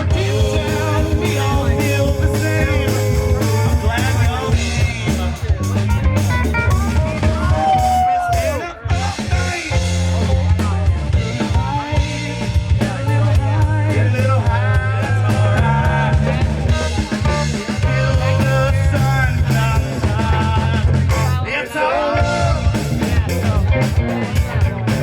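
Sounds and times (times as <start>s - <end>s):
drum kit: 0.0s - 21.5s, 22.2s - 25.0s
percussion: 0.0s - 21.5s, 22.2s - 25.0s
bass guitar: 0.0s - 25.0s
electric guitar: 0.0s - 25.0s.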